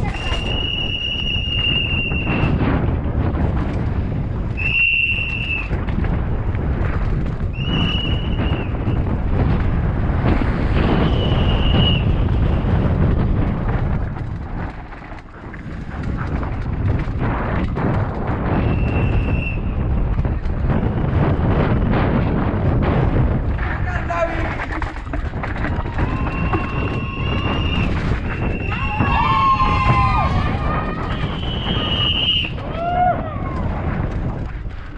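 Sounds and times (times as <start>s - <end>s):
bike rattling over ground: 0.0s - 34.9s
wind on microphone: 0.0s - 34.9s.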